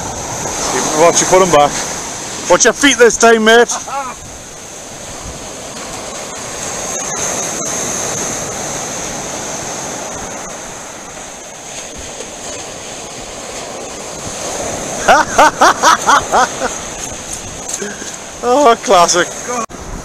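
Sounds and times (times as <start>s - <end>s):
surf breaking on beach: 0.0s - 20.0s.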